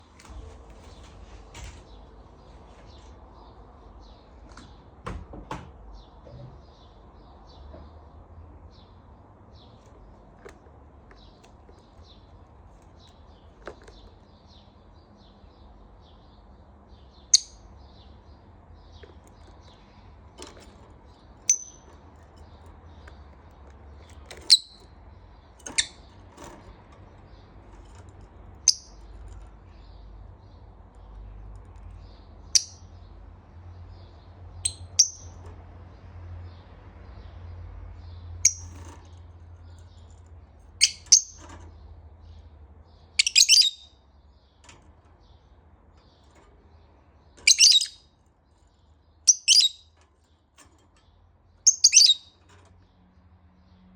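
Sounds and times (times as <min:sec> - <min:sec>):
lovebirds chirping softly: 0:00.0 - 0:53.9.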